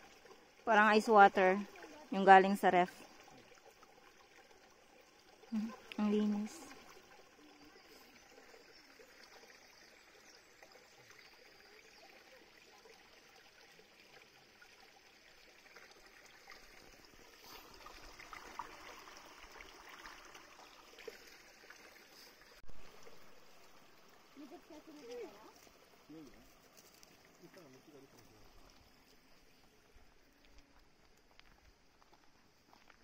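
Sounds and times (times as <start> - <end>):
stream trickling over rock: 0.0 - 33.0.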